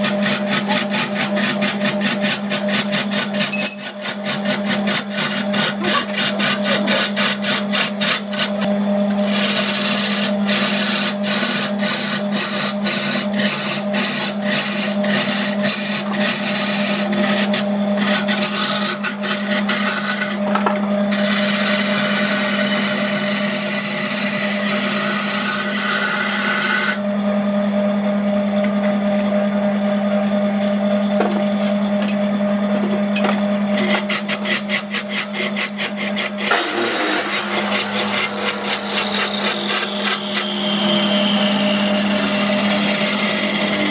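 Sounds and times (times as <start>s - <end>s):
turning tool cutting wood: 0.0s - 43.9s
wood lathe motor hum: 0.0s - 43.9s.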